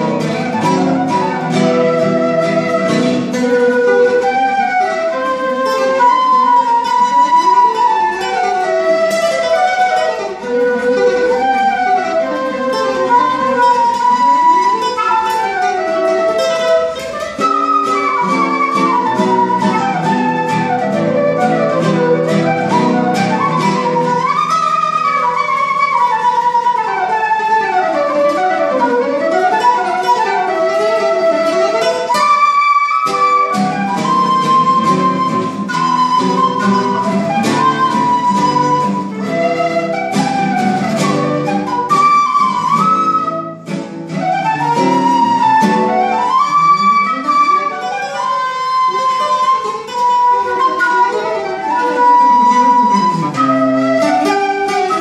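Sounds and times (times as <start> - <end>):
flute melody: 0.0 - 55.0
guitar accompaniment: 0.0 - 55.0.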